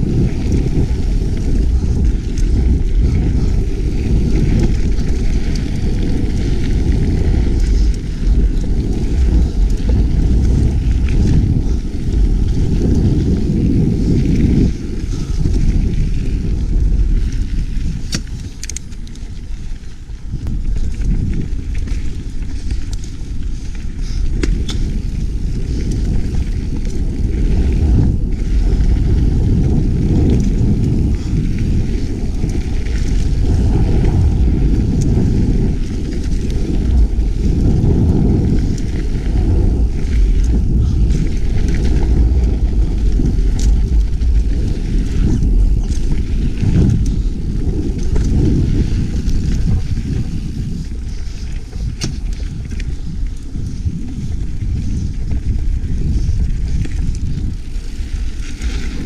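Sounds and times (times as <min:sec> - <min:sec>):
bike clicks and rattles: 0:00.0 - 0:59.0
tyres rolling on dirt: 0:00.0 - 0:59.0
wind rushing over microphone: 0:00.0 - 0:59.0.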